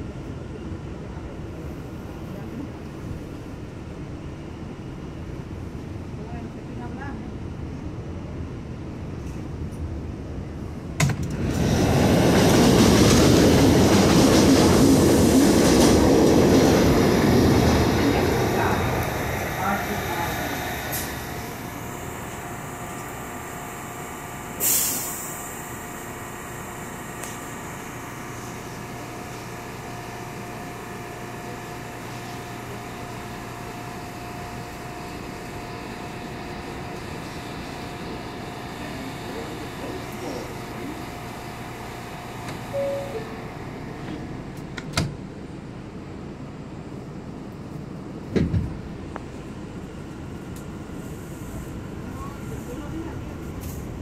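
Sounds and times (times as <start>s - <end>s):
subway train wheel and rail clatter: 0.0s - 54.0s.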